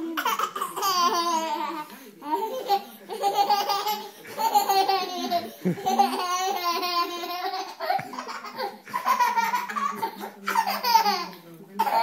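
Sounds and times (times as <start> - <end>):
baby laughing: 0.0 - 12.0.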